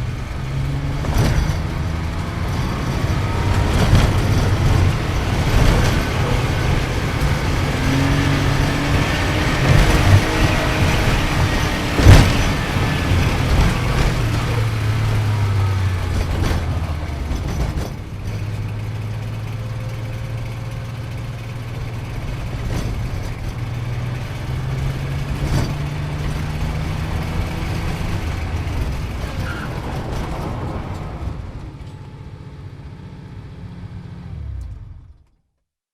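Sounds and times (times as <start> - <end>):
car engine running under load: 0.0 - 35.4.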